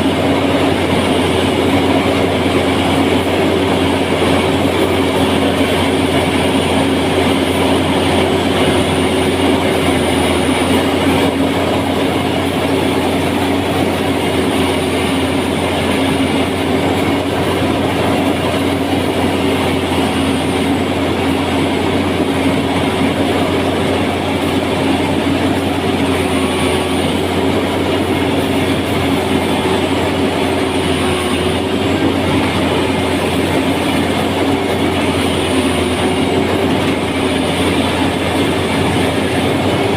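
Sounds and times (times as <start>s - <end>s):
engine running with rhythmic clatter: 0.0s - 39.9s.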